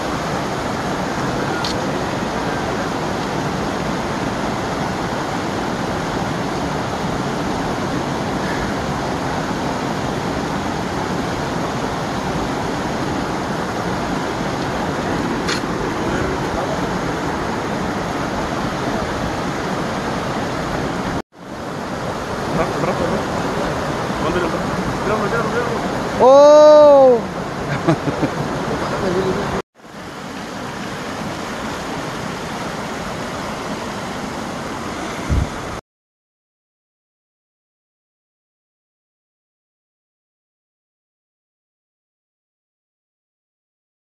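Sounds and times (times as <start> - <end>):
creek water rushing over rocks: 0.0 - 35.8.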